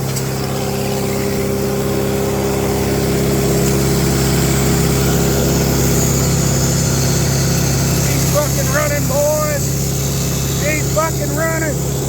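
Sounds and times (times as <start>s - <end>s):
welder engine running: 0.0s - 12.0s.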